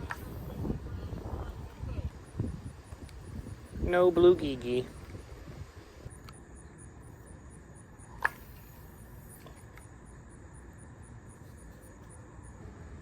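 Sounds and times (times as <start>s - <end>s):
insect chirping in pulses: 0.0s - 13.0s.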